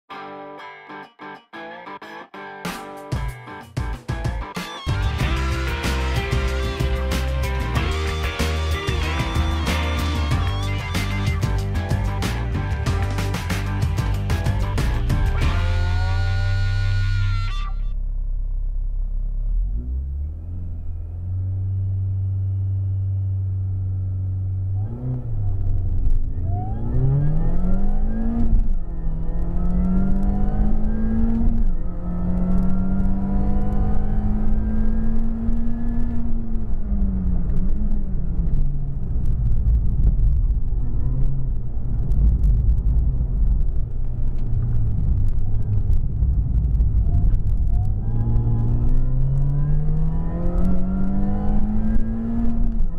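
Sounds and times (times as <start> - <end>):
car engine revving: 4.9 - 52.9.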